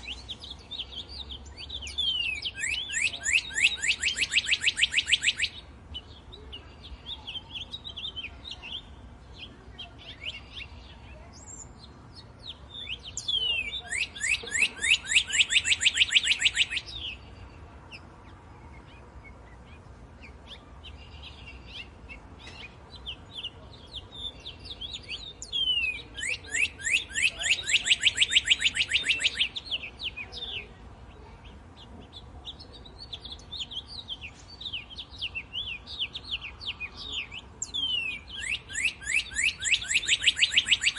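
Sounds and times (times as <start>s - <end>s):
rapid bird trills: 0.0s - 9.0s, 12.6s - 30.7s, 31.4s - 40.9s
songbirds chirping: 0.0s - 40.9s.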